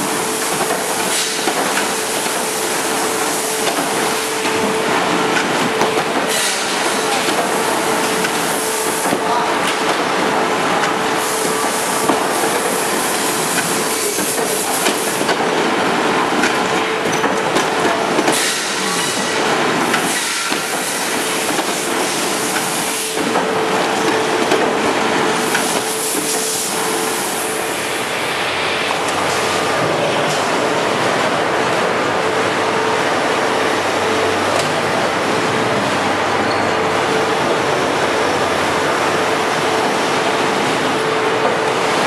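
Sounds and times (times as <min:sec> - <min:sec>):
constant machine hum: 0:00.0 - 0:42.0
machine feed rollers clattering: 0:00.0 - 0:42.0.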